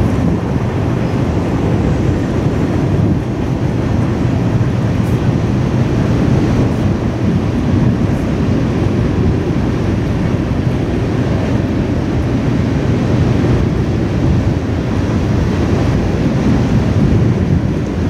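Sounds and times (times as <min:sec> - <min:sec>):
freight train wheels rumbling: 0:00.0 - 0:18.0
wind on microphone: 0:00.0 - 0:18.0.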